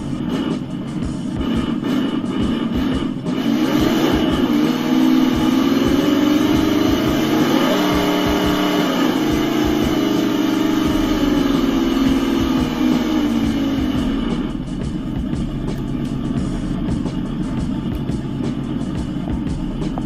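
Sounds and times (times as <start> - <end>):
electric motor whine: 1.3 - 20.0.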